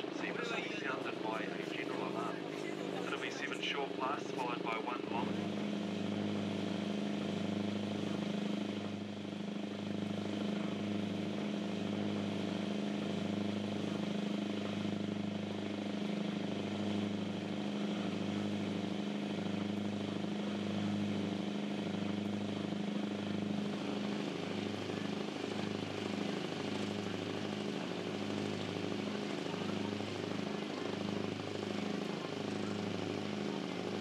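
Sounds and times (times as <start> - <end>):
boat engine pulsing hum: 0.0 - 34.0.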